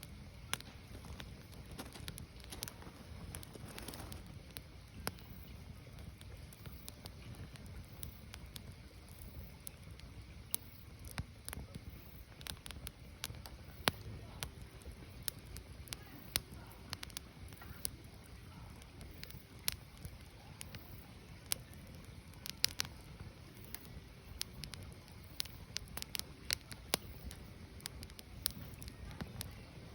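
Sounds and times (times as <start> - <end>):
crackles and pops of firewood: 0.0 - 29.9
low rumble of fire: 0.0 - 29.9.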